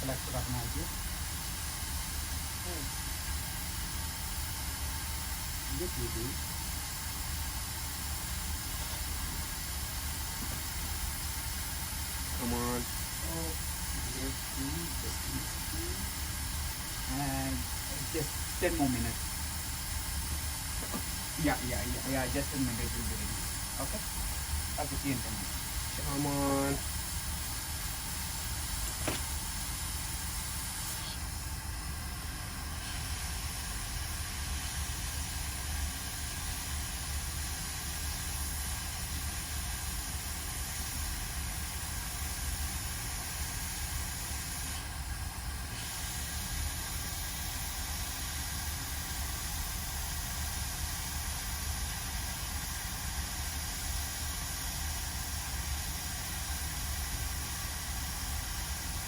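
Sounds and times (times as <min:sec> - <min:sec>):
hot air station hissing: 0:00.0 - 0:59.0.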